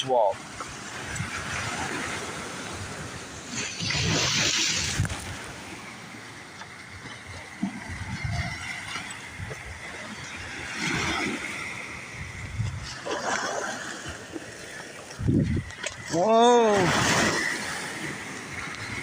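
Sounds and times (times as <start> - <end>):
waves washing onto beach: 0.0 - 19.0.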